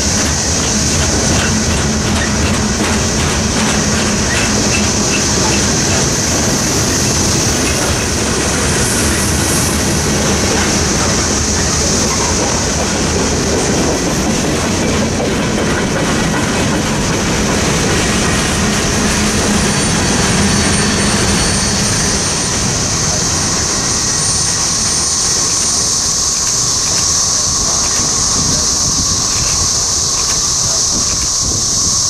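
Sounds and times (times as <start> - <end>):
high wheel squeal: 0.0 - 15.1, 17.7 - 32.0
train wheels rumbling on rails: 0.0 - 32.0.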